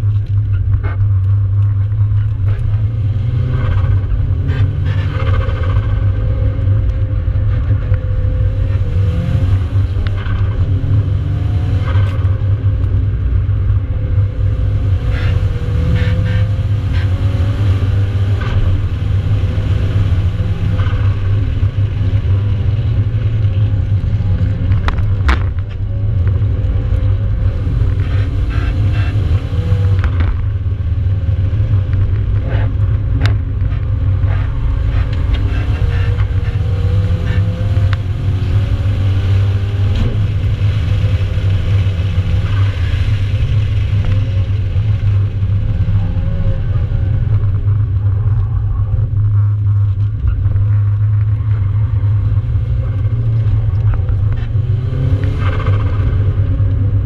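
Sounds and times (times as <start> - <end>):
car engine revving: 0.0 - 57.0
low road rumble: 0.0 - 57.0.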